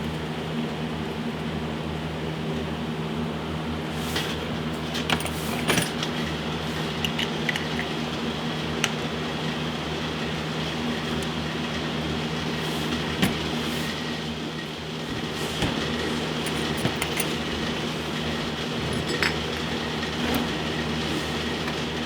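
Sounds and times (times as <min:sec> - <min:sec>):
steady machine hum: 0:03.2 - 0:22.0.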